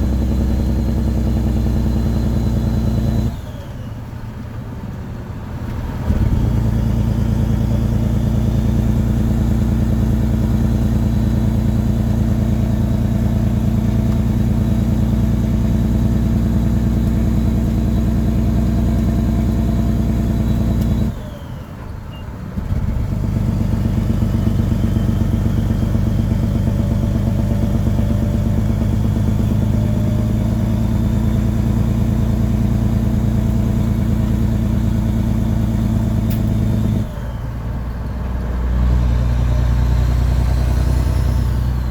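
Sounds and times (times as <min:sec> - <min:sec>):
loud diesel truck engine drone: 0:00.0 - 0:41.9.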